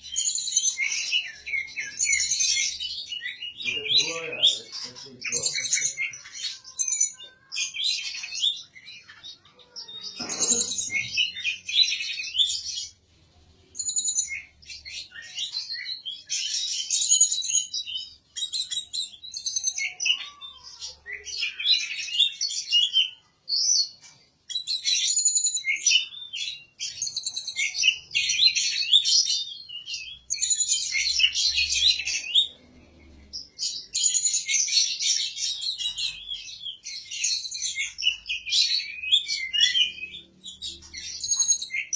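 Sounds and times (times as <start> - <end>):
songbird chirping and trilling: 0.0 - 41.9.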